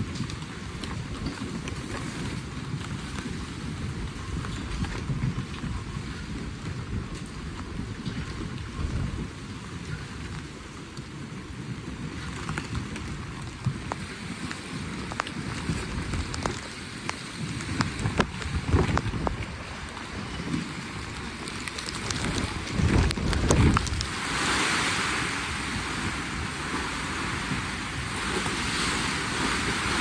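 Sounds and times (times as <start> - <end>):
storm wind and rain: 0.0 - 30.0
wind gusts buffeting microphone: 0.0 - 30.0.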